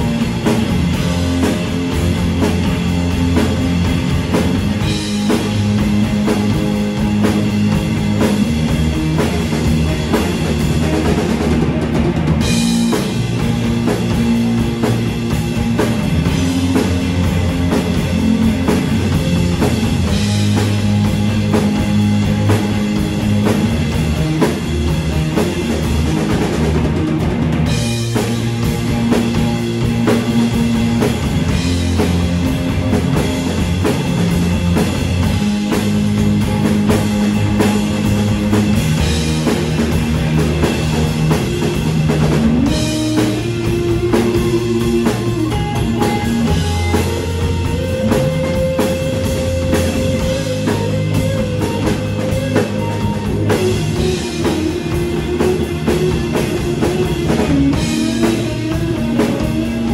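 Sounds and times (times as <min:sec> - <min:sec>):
bass guitar: 0:00.0 - 0:59.9
distorted electric guitars: 0:00.0 - 0:59.9
drum kit: 0:00.0 - 0:59.9.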